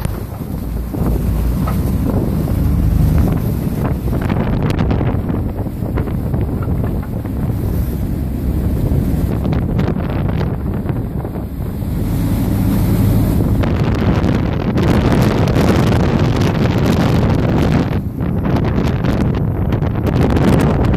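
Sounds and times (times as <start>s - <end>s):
boat engine running: 0.0s - 20.9s
water rushing along hull: 0.0s - 20.9s
wind buffeting microphone: 0.0s - 20.9s.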